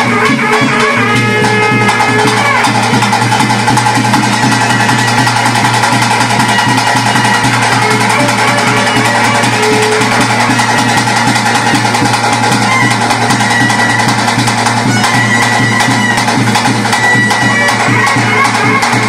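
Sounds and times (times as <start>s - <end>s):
fast steady drumming: 0.0s - 19.0s
reed wind instrument melody: 0.0s - 19.0s.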